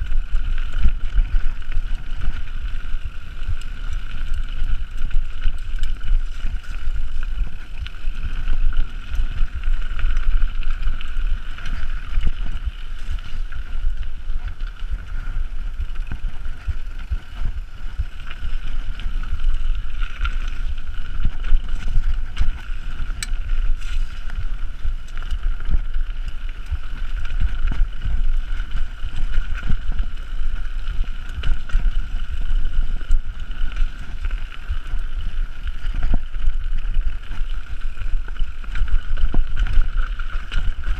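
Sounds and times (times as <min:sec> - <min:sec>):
bike tyres rumbling on dirt: 0:00.0 - 0:40.9.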